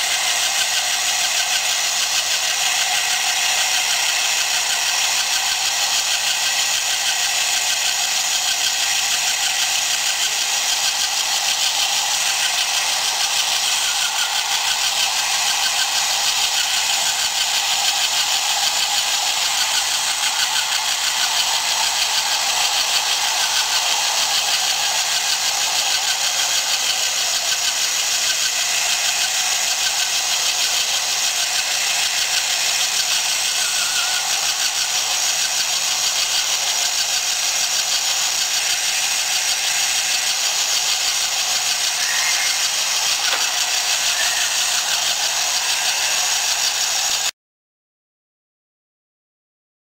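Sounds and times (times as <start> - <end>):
small electric motor whirring: 0.0 - 47.3.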